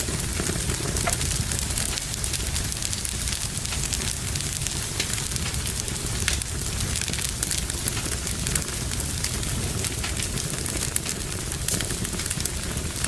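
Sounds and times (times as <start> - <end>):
fire crackling and popping: 0.0 - 13.0
low fire rumble: 0.0 - 13.0.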